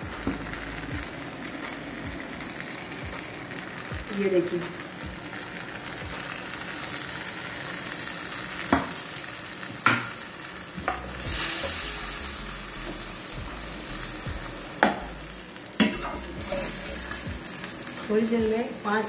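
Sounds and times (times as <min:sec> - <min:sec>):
curry sizzling in a pot: 0:00.0 - 0:19.0.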